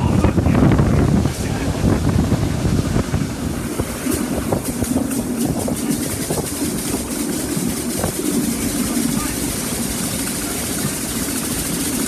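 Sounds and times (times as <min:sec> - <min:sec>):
train wheels rumbling on rails: 0:00.0 - 0:12.0
wind rushing over microphone: 0:00.0 - 0:12.0.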